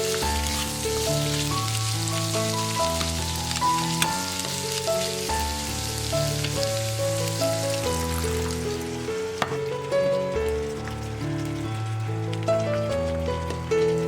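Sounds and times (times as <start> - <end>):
background music: 0.0 - 14.0
food sizzling in a pan: 0.0 - 14.0.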